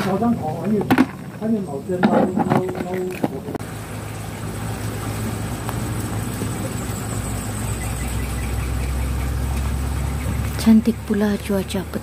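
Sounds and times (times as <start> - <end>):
low rumbling hum: 0.0 - 12.0.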